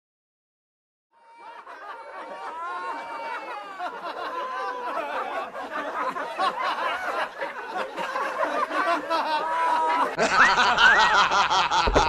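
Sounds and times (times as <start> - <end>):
group laughing and chattering: 1.2 - 12.0.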